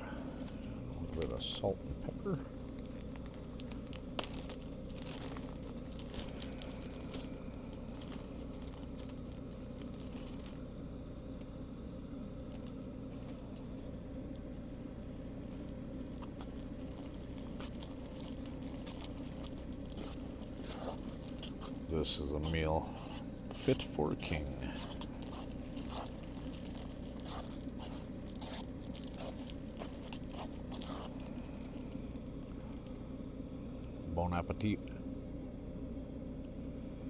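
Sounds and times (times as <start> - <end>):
air heater humming: 0.0 - 37.0.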